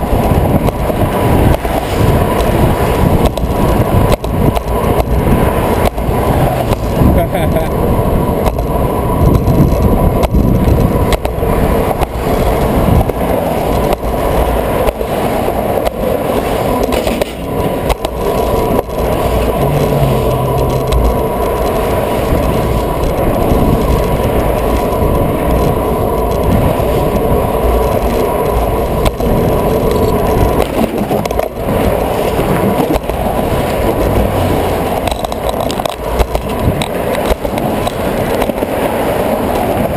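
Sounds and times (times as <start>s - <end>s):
bicycle knocks and rattles: 0.0s - 7.7s, 8.4s - 16.0s, 16.6s - 39.0s
bicycle rolling on concrete: 0.0s - 39.9s
car traffic: 0.0s - 39.9s.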